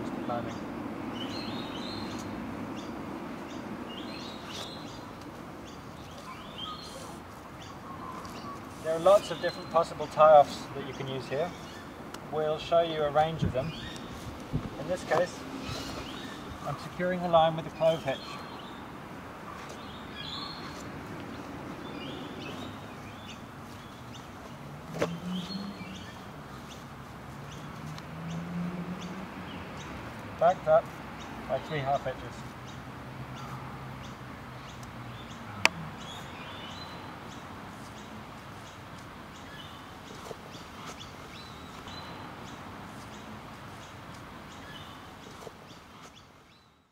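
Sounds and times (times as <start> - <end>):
outdoor background noise: 0.0 - 46.9
small birds chirping: 0.0 - 46.9.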